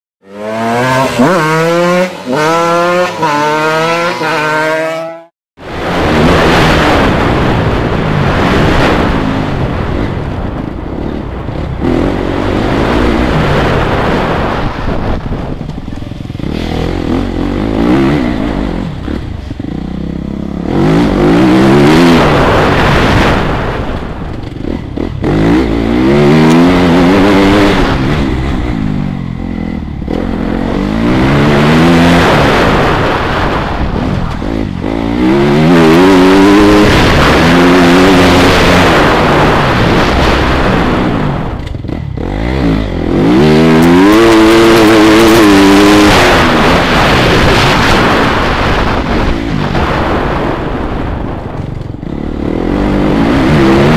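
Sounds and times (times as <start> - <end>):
motocross bike engine revving: 0.2 - 9.2, 16.2 - 51.0, 52.0 - 53.9
wind noise: 5.6 - 53.9.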